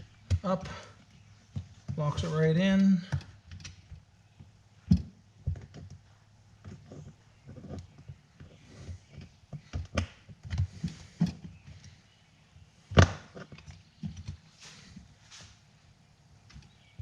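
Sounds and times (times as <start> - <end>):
knocks taps and scrapes of tools: 0.0 - 12.0, 13.0 - 15.6.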